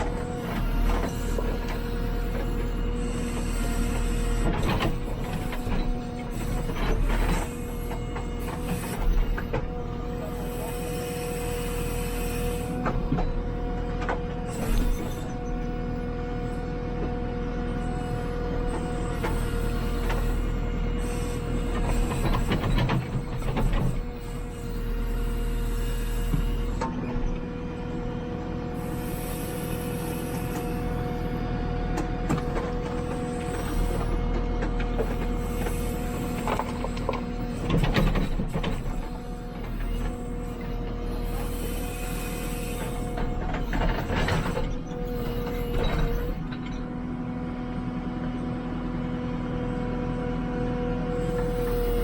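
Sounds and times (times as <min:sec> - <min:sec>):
hydraulic whine: 0:00.0 - 0:48.4, 0:49.1 - 0:52.0
diesel engine running: 0:00.0 - 0:52.0.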